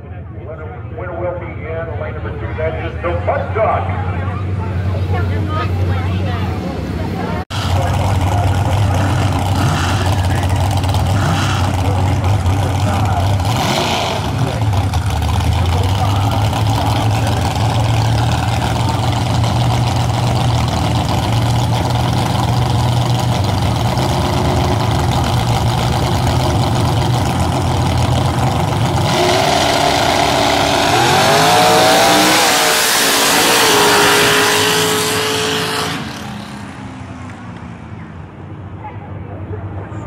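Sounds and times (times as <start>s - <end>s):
truck engines idling and revving: 0.0s - 40.0s.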